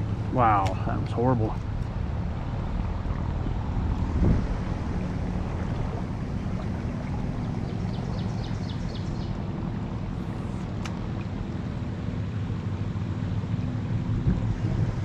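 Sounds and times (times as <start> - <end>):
stream water flowing: 0.0 - 15.0
wind rumbling on microphone: 0.0 - 15.0.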